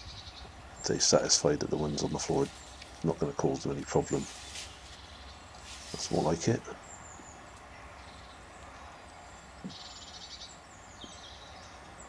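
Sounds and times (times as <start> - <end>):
small birds singing: 0.0 - 12.0.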